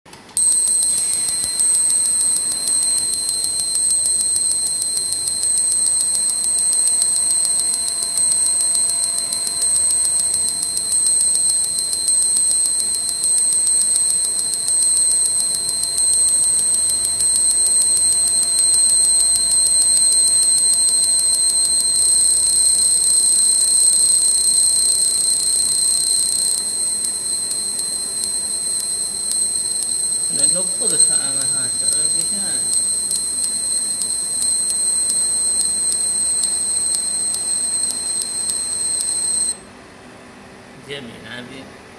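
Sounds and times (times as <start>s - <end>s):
laser marking machine whine: 0.4s - 39.6s.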